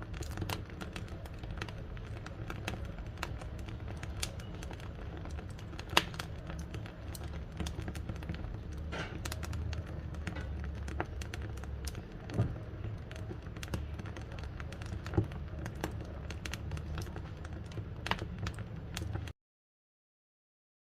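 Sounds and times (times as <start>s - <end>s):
burning wood crackling and popping: 0.0s - 19.3s
fire flames rumbling: 0.0s - 19.3s.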